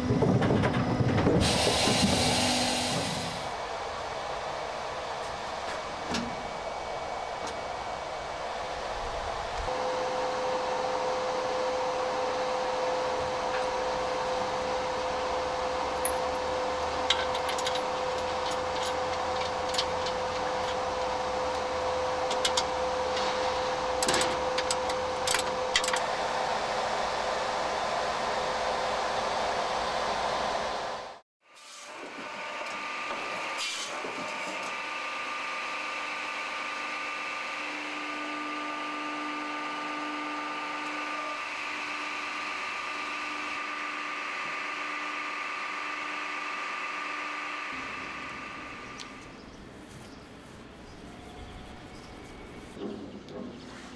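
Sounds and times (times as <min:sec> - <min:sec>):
machine hum: 0:00.0 - 0:31.2, 0:32.2 - 0:53.1.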